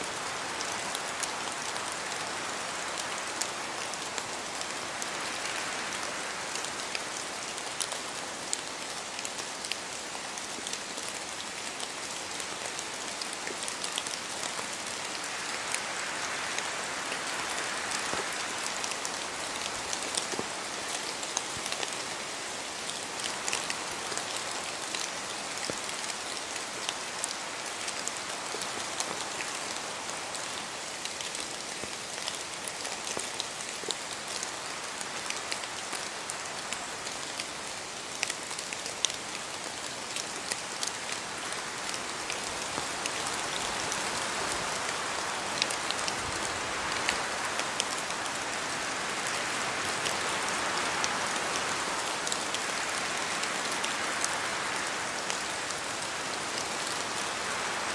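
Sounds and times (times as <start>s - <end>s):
steady rain in forest: 0.0s - 57.9s.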